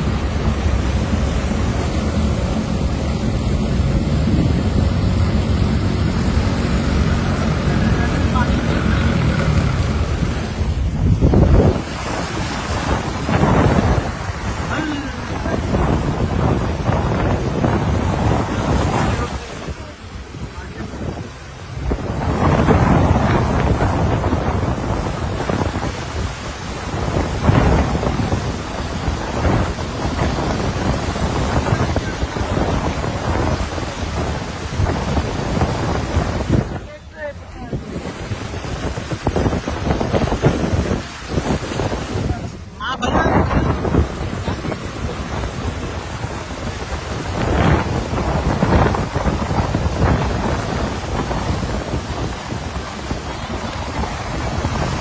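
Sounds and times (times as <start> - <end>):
tyres splashing through water: 0.0 - 55.0
wind rumble on microphone: 0.0 - 55.0.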